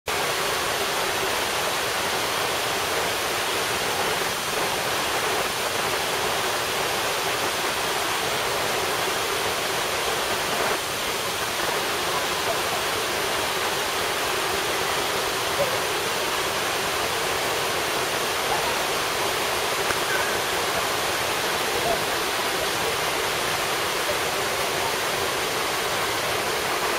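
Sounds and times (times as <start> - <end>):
waterfall rushing: 0.1 - 26.9.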